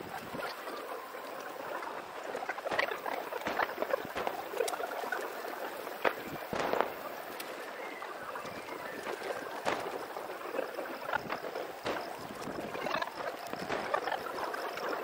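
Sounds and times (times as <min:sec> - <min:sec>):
fireworks crackling hiss: 0:00.0 - 0:15.0
fireworks sharp cracks: 0:02.5 - 0:15.0.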